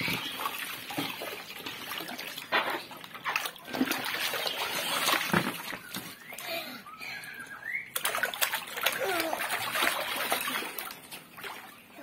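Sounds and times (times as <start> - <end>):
water splashing in paddling pool: 0.0 - 6.5, 7.6 - 12.0.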